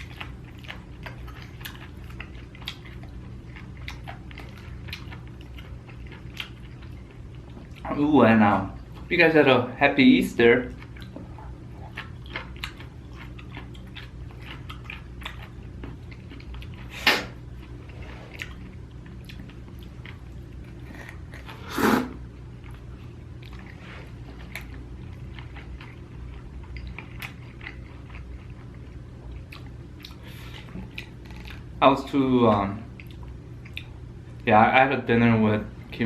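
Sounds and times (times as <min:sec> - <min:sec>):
person chewing: 0:00.0 - 0:08.1, 0:10.7 - 0:31.8, 0:32.9 - 0:34.4
steady low hum: 0:00.0 - 0:36.0.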